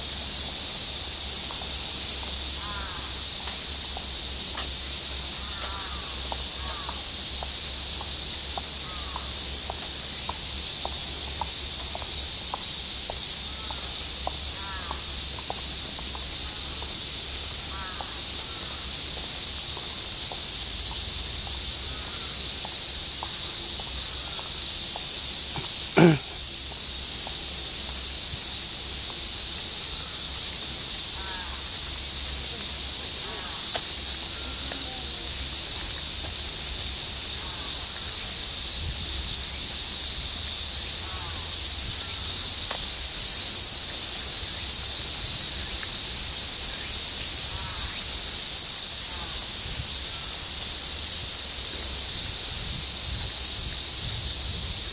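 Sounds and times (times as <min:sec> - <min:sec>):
cicadas chorus: 0:00.0 - 0:54.9.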